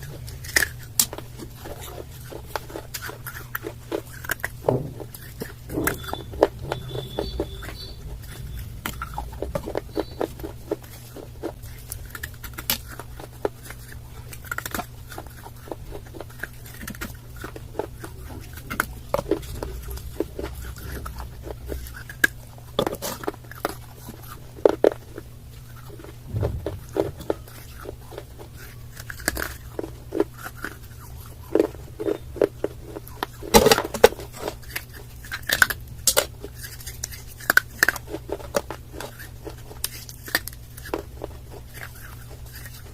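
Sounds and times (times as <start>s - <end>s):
crunching of dry clay: 0.0s - 42.9s
steady low hum: 0.0s - 42.9s.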